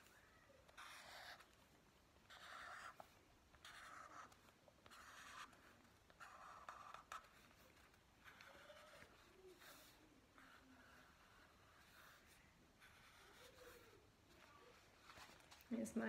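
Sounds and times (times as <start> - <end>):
marker drawn across paper: 0.0 - 1.6, 2.2 - 15.4.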